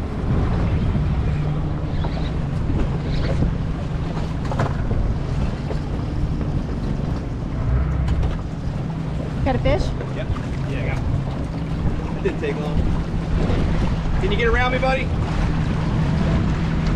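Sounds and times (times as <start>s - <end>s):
boat engine idling: 0.0s - 16.9s
wind buffeting microphone: 0.0s - 16.9s.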